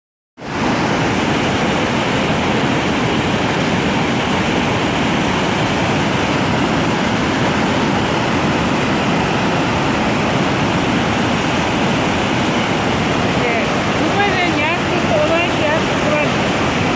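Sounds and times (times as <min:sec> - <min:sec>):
waterfall rushing: 0:00.4 - 0:16.9.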